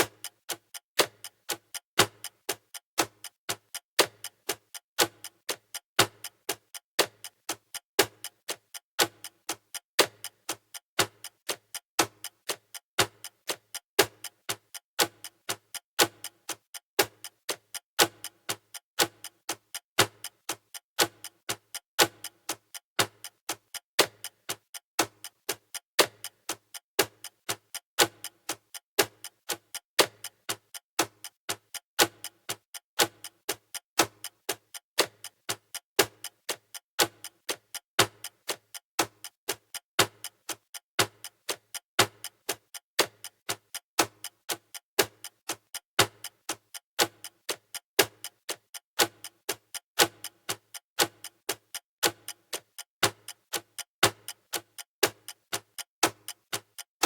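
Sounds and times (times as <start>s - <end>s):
clock ticking: 0.0s - 57.0s.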